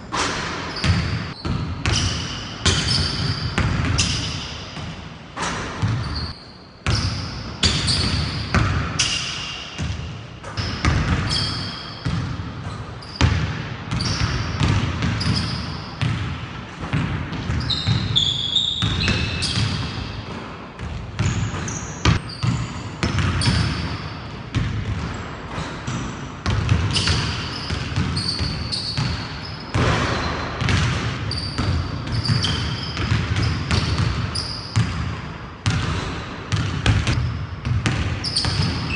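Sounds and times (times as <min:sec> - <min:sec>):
sneakers squeaking: 0:00.0 - 0:38.9
basketball bouncing on wooden floor: 0:00.4 - 0:09.2, 0:09.8 - 0:38.9.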